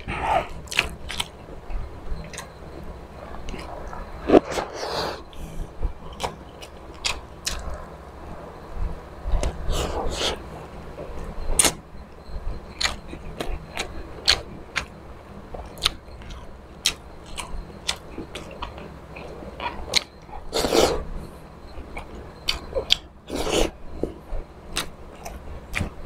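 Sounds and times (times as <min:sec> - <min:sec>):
faint low hum: 0:00.0 - 0:26.0
man chewing food: 0:00.0 - 0:26.0.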